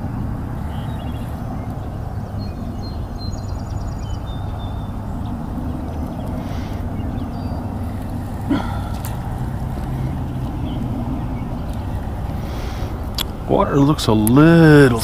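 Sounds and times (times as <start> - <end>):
faint songbird chirps and trills: 0.0 - 15.0
steady low rumble: 0.0 - 15.0.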